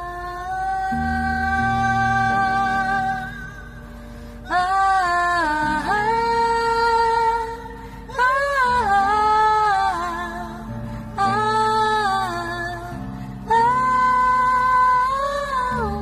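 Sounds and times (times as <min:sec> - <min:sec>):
soft musical accompaniment: 0:00.0 - 0:16.0
woman singing a slow ballad: 0:00.0 - 0:16.0.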